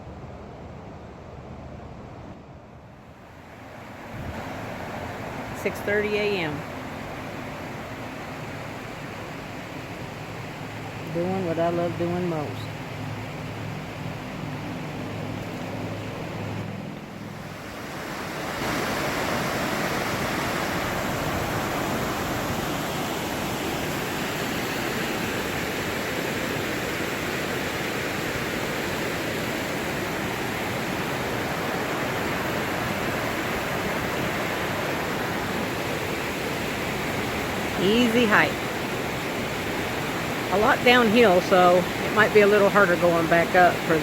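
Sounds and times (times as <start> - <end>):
waterfall roaring: 3.4 - 44.0.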